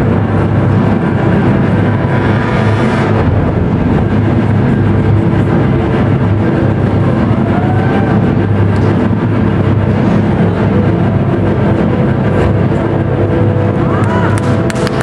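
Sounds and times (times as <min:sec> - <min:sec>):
bass-heavy music over loudspeakers: 0:00.0 - 0:15.0.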